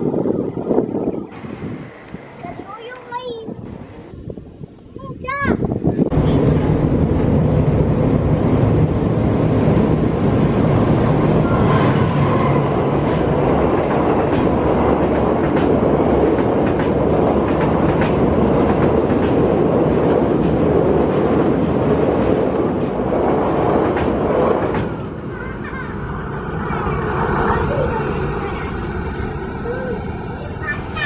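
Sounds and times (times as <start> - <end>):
passenger train rumbling past: 0.0 - 31.0.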